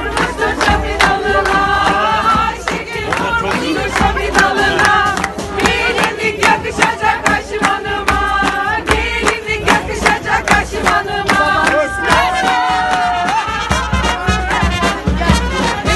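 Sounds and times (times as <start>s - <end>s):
brass band playing folk dance: 0.0s - 15.9s
crowd clapping along: 0.0s - 15.9s
drum beat: 0.0s - 15.9s.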